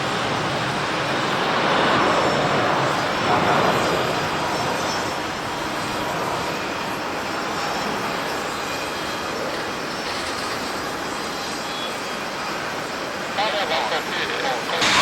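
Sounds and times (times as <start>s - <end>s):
jet engines taking off: 0.0s - 15.0s.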